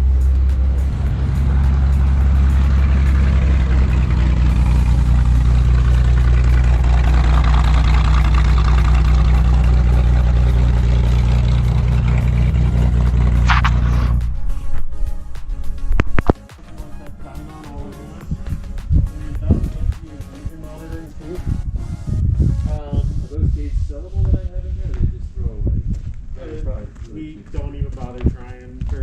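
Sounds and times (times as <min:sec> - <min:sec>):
vehicle engine and road drone: 0:00.0 - 0:27.7.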